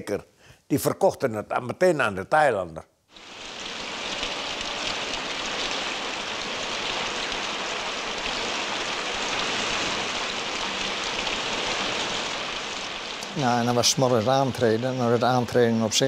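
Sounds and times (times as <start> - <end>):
steady rain: 3.1 - 16.0.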